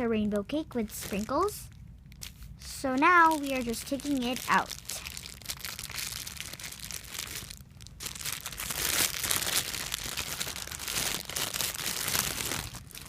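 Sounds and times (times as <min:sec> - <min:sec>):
plastic bag crinkling: 0:00.7 - 0:13.0.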